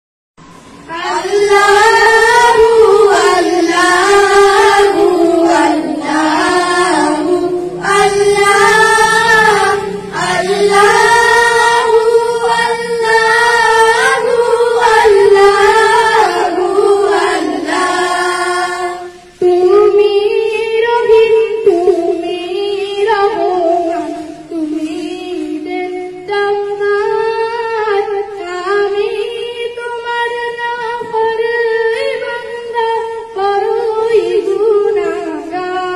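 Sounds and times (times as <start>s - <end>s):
children singing into microphone: 0.4s - 35.9s.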